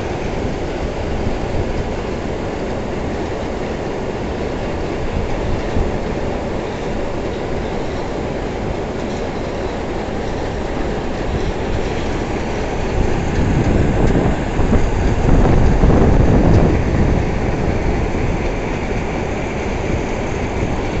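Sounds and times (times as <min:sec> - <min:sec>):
belt conveyor machinery rumbling: 0:00.0 - 0:21.0.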